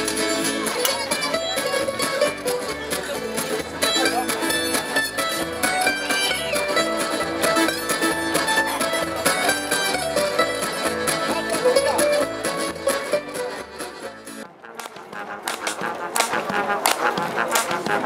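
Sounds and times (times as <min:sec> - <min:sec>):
folk instrumental plucked strings: 0:00.0 - 0:18.0.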